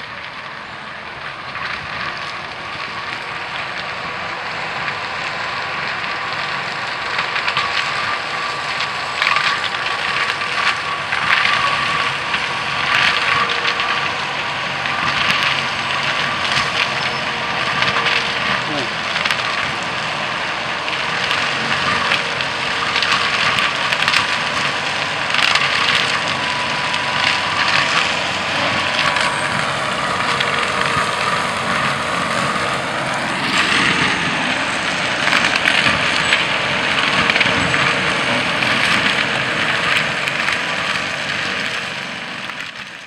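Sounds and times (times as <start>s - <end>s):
debris crackling: 0.0s - 43.0s
heavy machine engine running: 0.0s - 43.0s.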